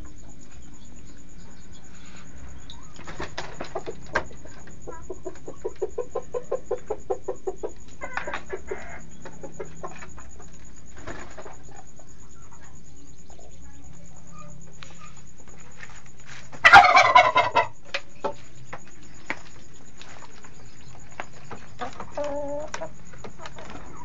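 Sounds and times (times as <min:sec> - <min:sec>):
chicken clucking: 0:00.0 - 0:14.0, 0:16.6 - 0:24.0.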